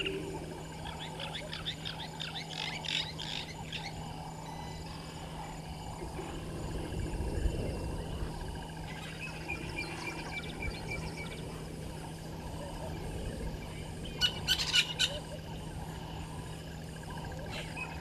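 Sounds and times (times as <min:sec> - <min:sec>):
frogs and insects chorus: 0:00.0 - 0:18.0
steady low hum: 0:00.0 - 0:18.0.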